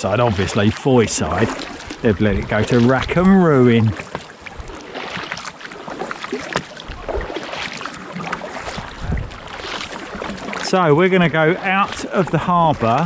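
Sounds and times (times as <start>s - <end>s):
paddles splashing in water: 0.0s - 13.0s
water lapping at kayak hull: 0.0s - 13.0s.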